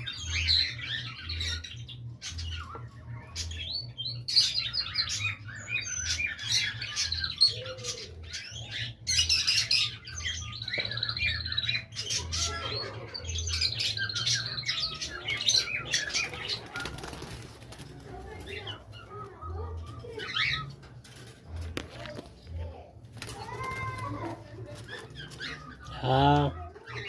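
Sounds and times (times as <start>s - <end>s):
birds chirping and squawking: 0.0s - 27.0s.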